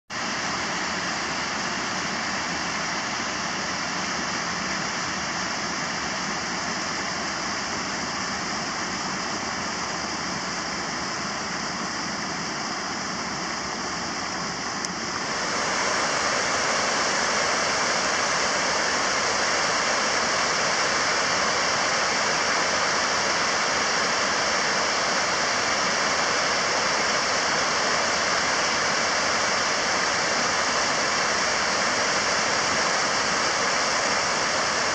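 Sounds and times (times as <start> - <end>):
water rushing over a weir: 0.1 - 34.9.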